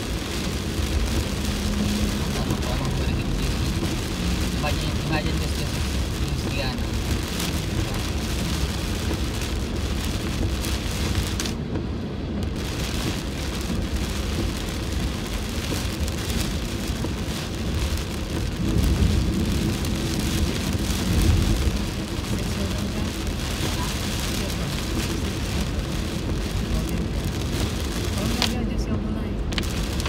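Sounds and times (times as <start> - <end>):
heavy rain on car roof: 0.0 - 30.0
low road rumble: 0.0 - 30.0.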